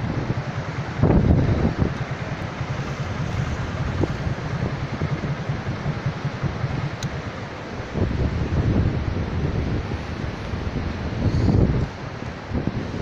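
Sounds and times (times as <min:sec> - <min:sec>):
floodwater rushing: 0:00.0 - 0:13.0
wind buffeting microphone: 0:00.0 - 0:13.0.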